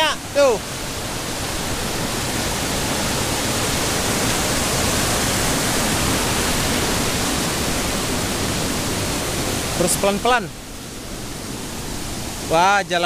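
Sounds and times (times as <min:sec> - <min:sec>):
waterfall pouring over rock: 0:00.0 - 0:13.0.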